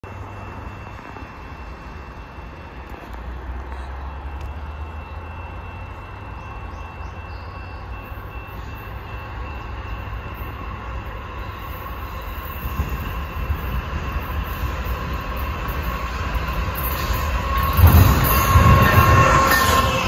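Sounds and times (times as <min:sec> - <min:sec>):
distant freight train rumble: 0:00.0 - 0:20.0.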